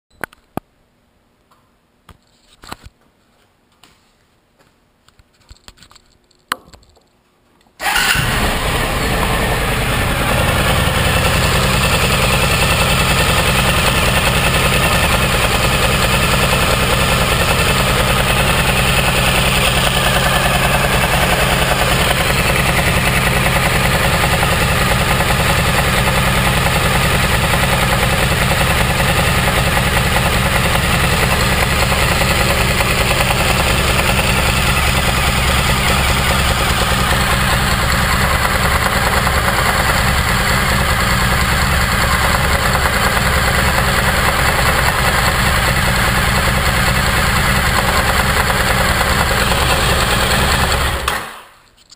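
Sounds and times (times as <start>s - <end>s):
engine knock: 7.8s - 51.3s
motorcycle engine idling: 7.8s - 51.3s.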